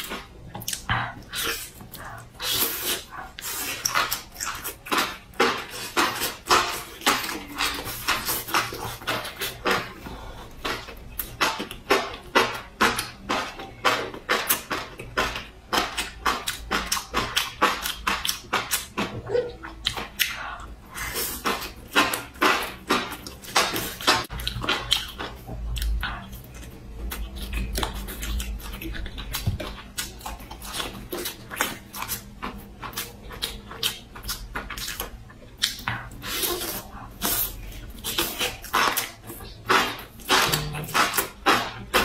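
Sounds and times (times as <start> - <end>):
wet chewing and slurping: 0.0 - 42.0.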